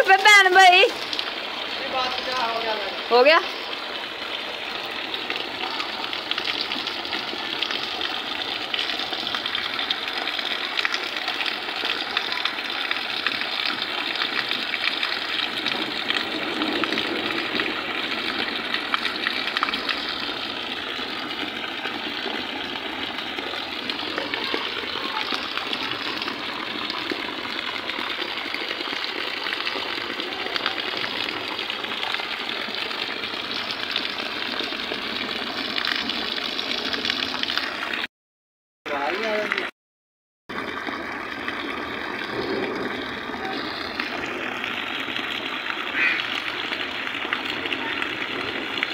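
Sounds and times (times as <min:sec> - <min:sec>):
heavy rain splashing into water: 0:00.0 - 0:38.1, 0:38.9 - 0:39.7, 0:40.5 - 0:48.9.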